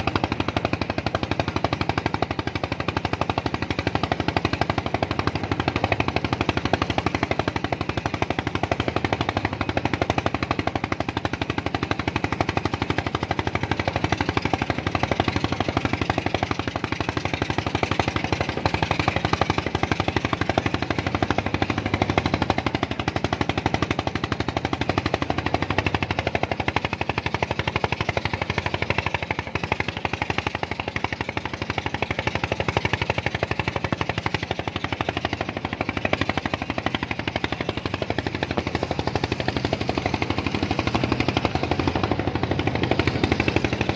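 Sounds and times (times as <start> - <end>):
small engine knocking: 0.0 - 43.9.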